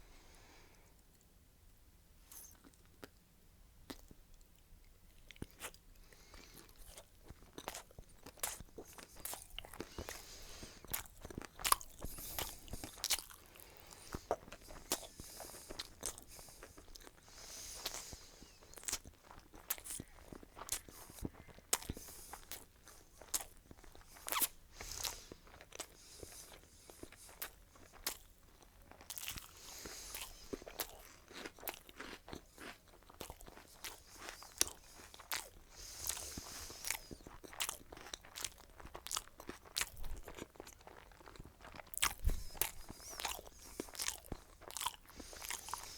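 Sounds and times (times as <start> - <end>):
crunchy bites and chewing: 5.1 - 45.9.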